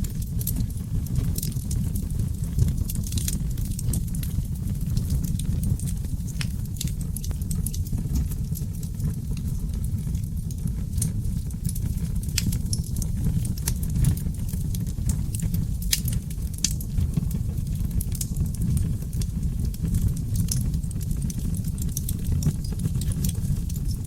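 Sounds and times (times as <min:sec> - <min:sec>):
log fire burning: 0:00.0 - 0:24.0.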